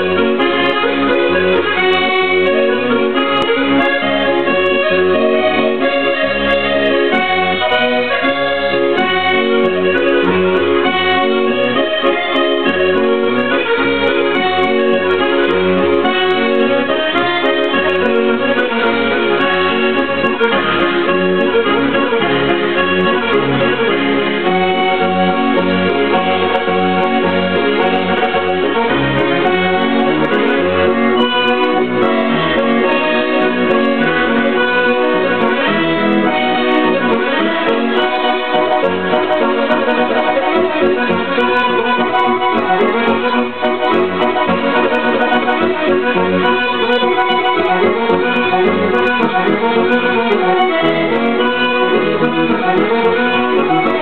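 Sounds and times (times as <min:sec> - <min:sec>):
button accordion dance tune: 0:00.0 - 0:54.0.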